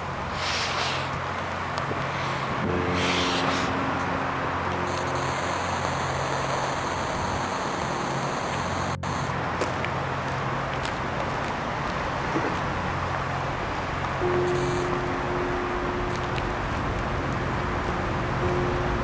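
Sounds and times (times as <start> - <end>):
low engine-like hum: 0.0 - 19.0
traffic noise: 0.0 - 19.0.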